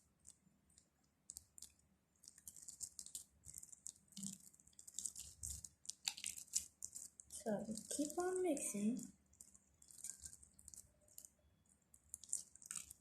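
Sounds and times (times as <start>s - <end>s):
slime wet crackles and squelches: 0.0s - 13.0s.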